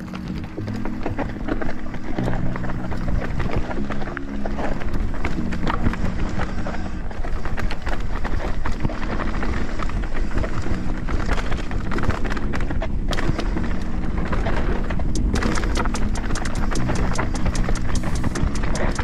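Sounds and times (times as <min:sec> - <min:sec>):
bike clacking and rattling: 0:00.0 - 0:19.0
bike tyres rumbling: 0:00.0 - 0:19.0.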